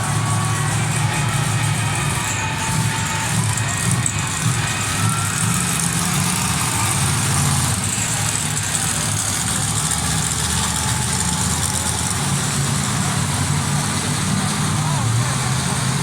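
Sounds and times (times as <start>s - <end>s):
monster truck engine running: 0.0s - 16.0s.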